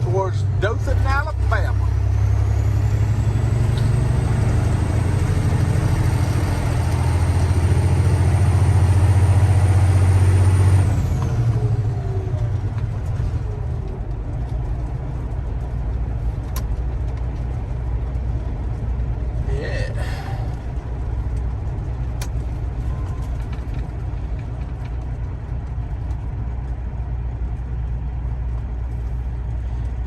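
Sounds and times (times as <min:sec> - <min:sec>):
truck diesel engine pulling: 0:00.0 - 0:30.0.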